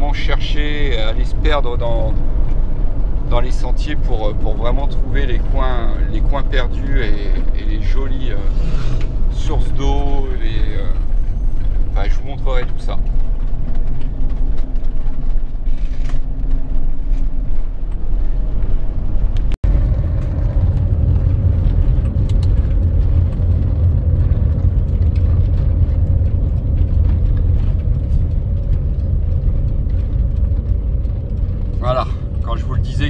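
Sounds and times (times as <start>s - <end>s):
engine and road rumble: 0.0s - 33.0s
steady hum: 0.0s - 33.0s.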